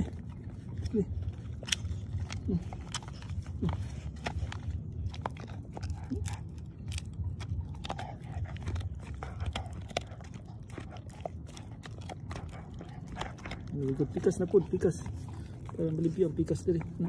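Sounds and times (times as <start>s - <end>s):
dog gnawing chew bone: 0.0s - 17.0s
low steady rumble: 0.0s - 17.0s.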